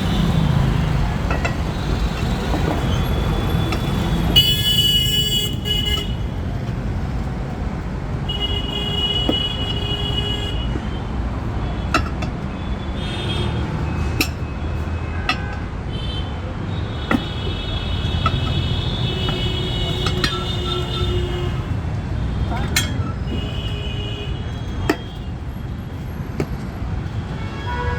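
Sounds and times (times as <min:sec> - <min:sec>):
vehicle horns honking: 0:00.0 - 0:06.3, 0:08.2 - 0:25.4, 0:27.2 - 0:27.9
road traffic rumble: 0:00.0 - 0:27.9.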